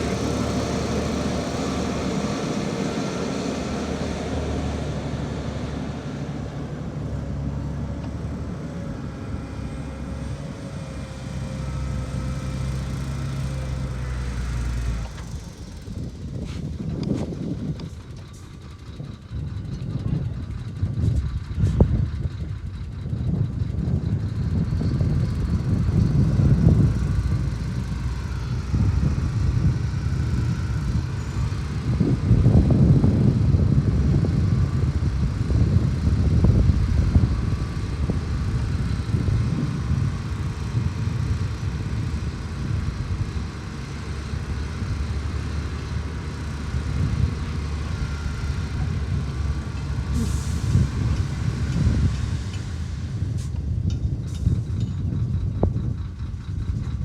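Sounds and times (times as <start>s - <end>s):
heavy machinery rumbling: 0.0s - 57.0s.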